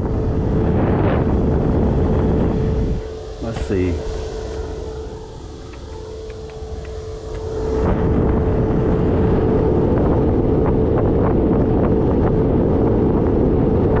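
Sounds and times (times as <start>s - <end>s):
air rushing through vent: 0.0s - 14.0s
steady machine hum: 0.0s - 14.0s
wind buffeting microphone: 0.0s - 14.0s.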